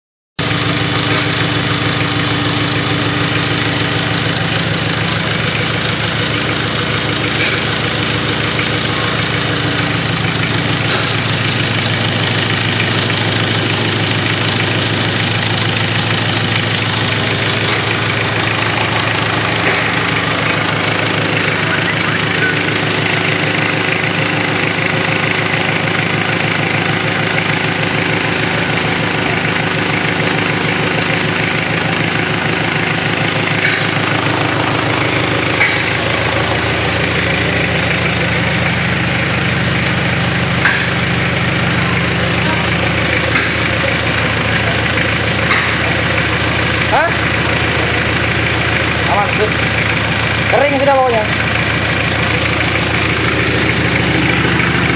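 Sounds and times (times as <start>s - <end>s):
diesel engine running: 0.4s - 54.9s.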